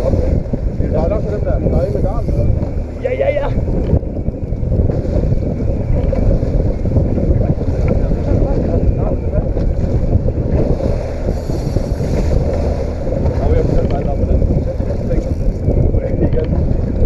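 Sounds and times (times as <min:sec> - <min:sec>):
boat and water noise: 0:00.0 - 0:17.0
wind rumble on microphone: 0:00.0 - 0:17.0.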